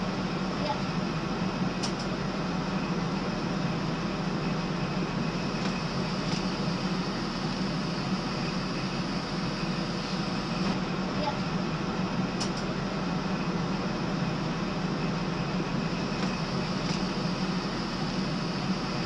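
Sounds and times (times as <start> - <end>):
train cab drone and rumble: 0.0 - 19.0.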